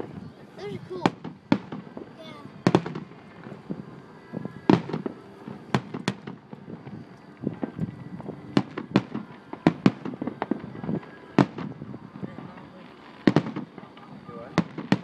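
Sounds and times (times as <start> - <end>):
fireworks bursting with bangs: 0.0 - 15.0
small fireworks pops: 0.0 - 15.0.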